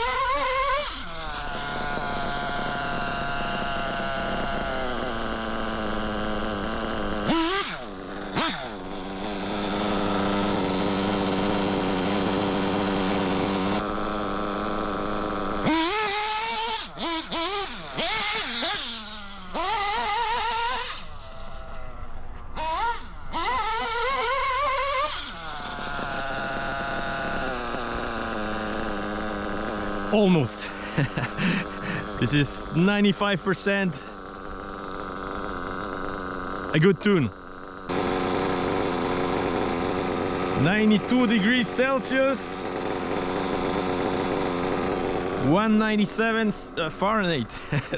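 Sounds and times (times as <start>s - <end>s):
nitro engine revving: 0.0s - 47.9s.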